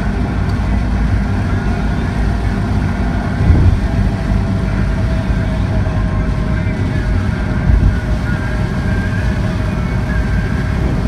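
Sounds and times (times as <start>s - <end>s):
car driving in rain: 0.0s - 11.0s.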